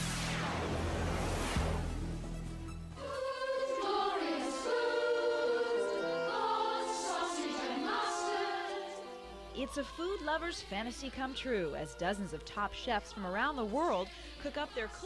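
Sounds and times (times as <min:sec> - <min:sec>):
choir singing in harmony: 0:02.9 - 0:15.0.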